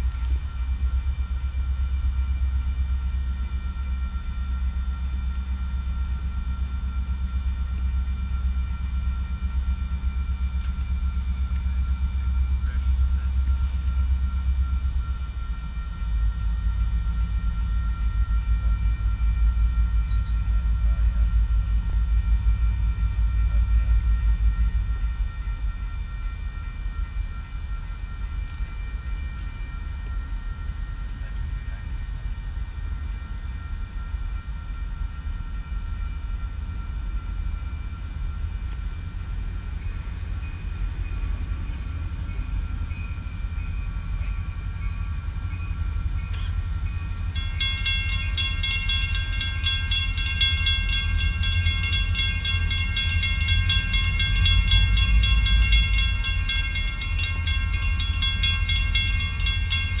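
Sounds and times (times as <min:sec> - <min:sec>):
diesel locomotives rumbling: 0:00.0 - 1:00.0
high pulsing warning sound: 0:00.0 - 1:00.0.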